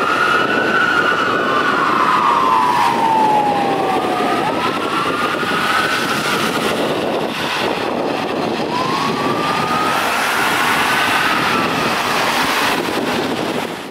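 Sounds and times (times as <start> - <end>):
fire truck siren wailing: 0.0 - 13.9
traffic on a wet road: 0.0 - 13.9.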